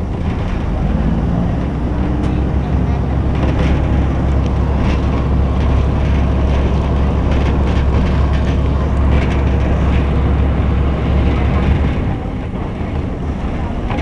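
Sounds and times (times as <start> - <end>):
train interior rumble: 0.0 - 14.0
wheels clicking over track: 0.0 - 14.0.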